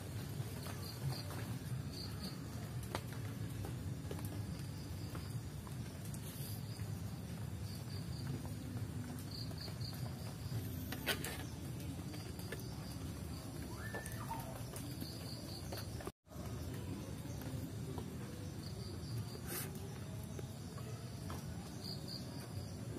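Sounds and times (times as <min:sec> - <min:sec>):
insects chirping: 0:03.6 - 0:22.9.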